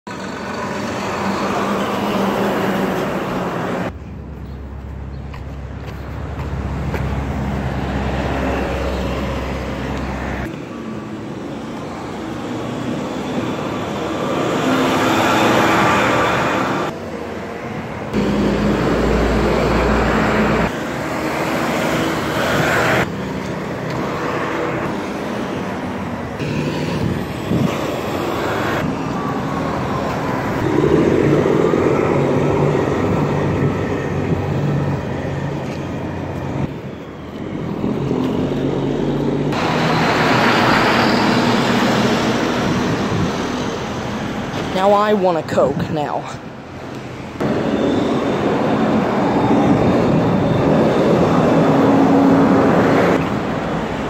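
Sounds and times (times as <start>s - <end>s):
cars and trucks driving past: 0.1s - 54.0s
truck passing close: 0.1s - 54.0s.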